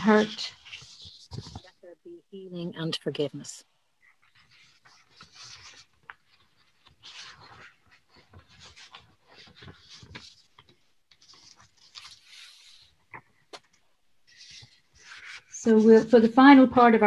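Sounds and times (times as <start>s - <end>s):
paper sheets rustling: 0.0s - 1.9s, 4.1s - 16.9s.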